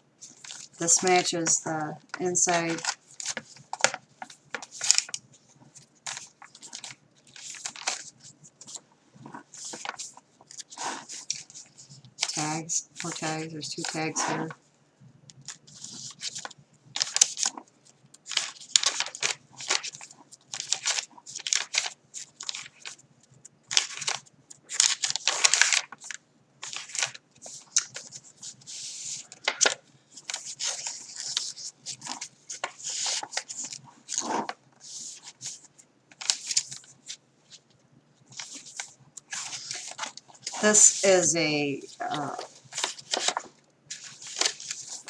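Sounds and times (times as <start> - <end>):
paper pages rustling: 0.2 - 14.6, 15.4 - 23.0, 23.6 - 45.0.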